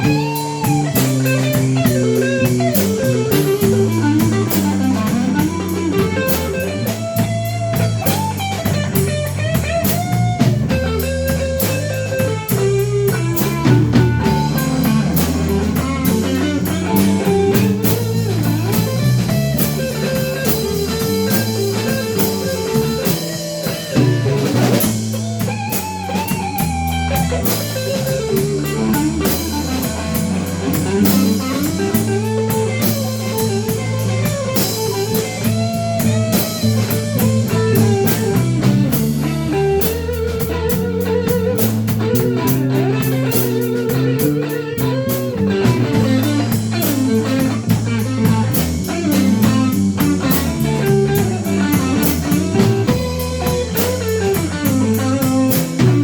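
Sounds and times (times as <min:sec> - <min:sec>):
bass guitar: 0:00.0 - 0:56.0
drum kit: 0:00.0 - 0:56.0
lead guitar solo with bent notes: 0:00.0 - 0:56.0.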